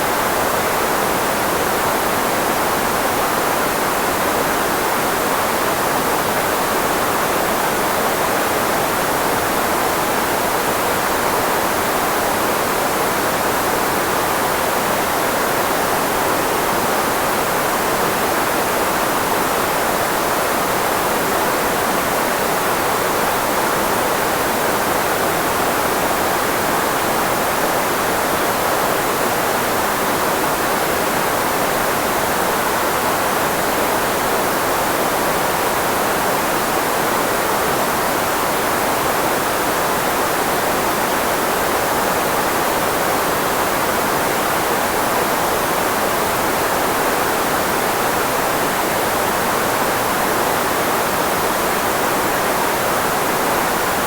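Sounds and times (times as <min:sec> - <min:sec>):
filtered white noise hiss: 0:00.0 - 0:54.0.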